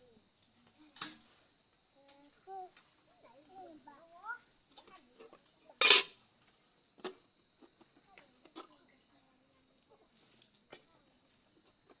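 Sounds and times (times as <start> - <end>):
night insects chirring: 0.0 - 12.0.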